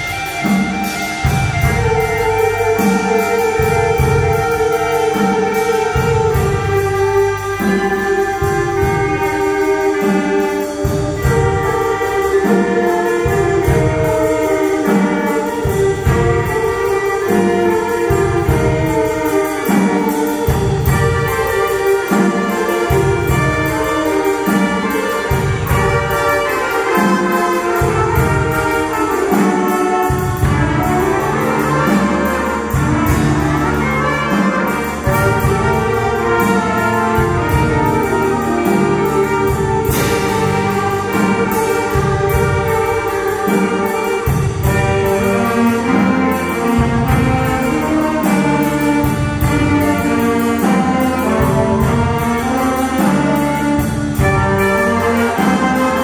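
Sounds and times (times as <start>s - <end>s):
concert band playing: 0.0s - 56.0s
drum kit beat: 0.0s - 56.0s.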